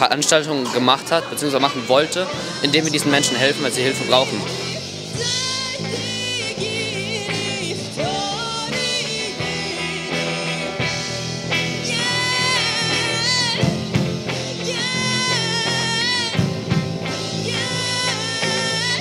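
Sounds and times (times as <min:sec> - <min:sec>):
rock band playing live: 0:00.0 - 0:19.0
singer holding wavering notes: 0:00.0 - 0:19.0.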